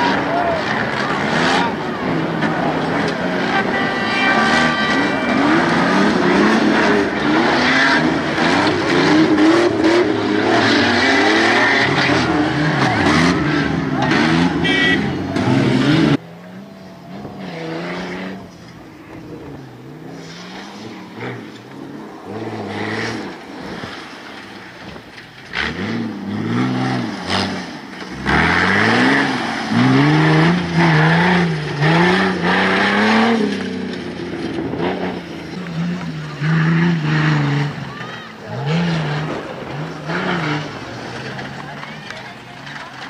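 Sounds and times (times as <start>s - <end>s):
engine revving: 0.0s - 43.0s.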